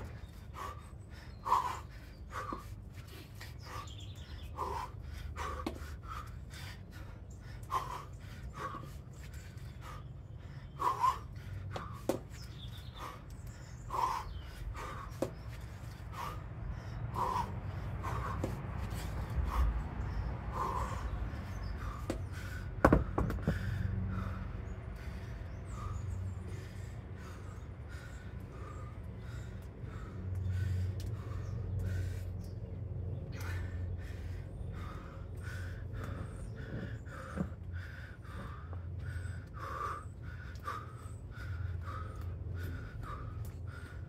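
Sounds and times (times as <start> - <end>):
person breathing hard: 0.0 - 44.0
steady low hum: 0.0 - 44.0.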